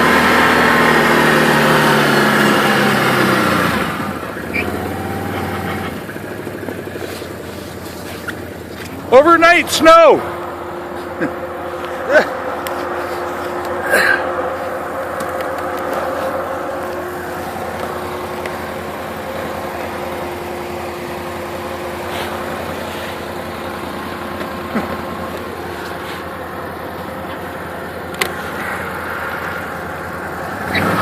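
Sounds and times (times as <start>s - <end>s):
vehicle engine running steadily: 0.0s - 31.0s.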